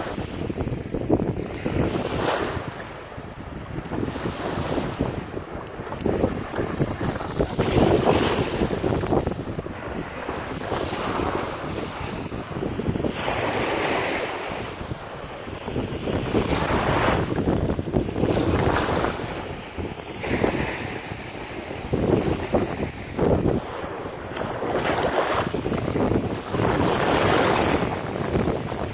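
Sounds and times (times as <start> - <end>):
small waves on sandy shore: 0.0 - 28.9
wind buffeting microphone: 0.0 - 28.9.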